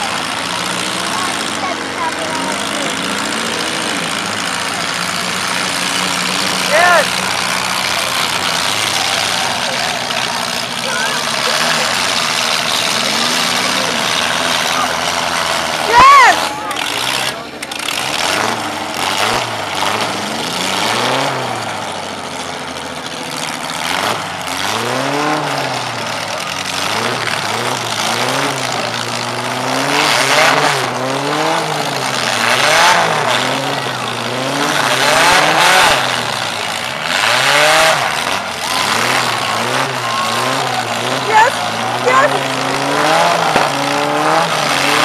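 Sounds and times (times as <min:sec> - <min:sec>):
car engines revving: 0:00.0 - 0:45.0
engine and exhaust noise: 0:00.0 - 0:45.0.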